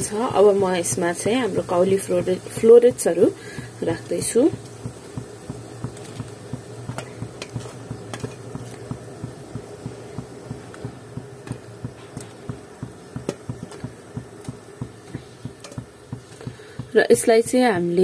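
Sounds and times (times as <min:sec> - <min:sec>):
steady low hum: 0:00.0 - 0:18.0
water boiling in a pot: 0:00.0 - 0:18.0.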